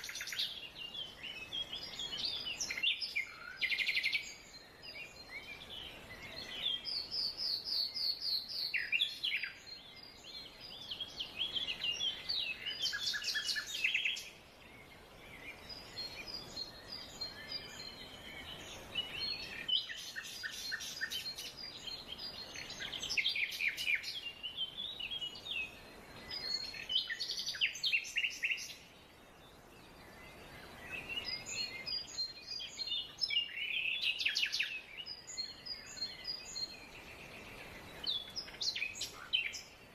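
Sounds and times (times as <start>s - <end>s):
forest ambience hiss: 0.0s - 39.9s
songbirds singing and chirping: 0.0s - 39.9s.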